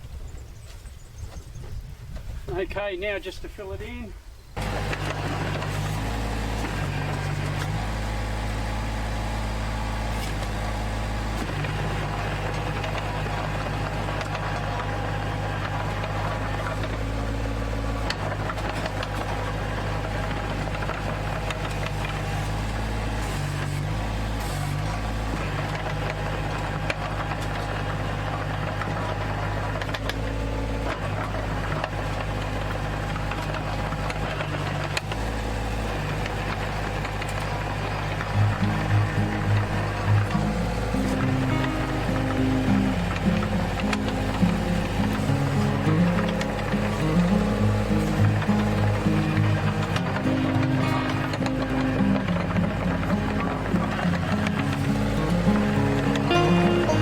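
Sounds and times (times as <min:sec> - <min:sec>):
mini excavator diesel engine: 0:04.6 - 0:57.0.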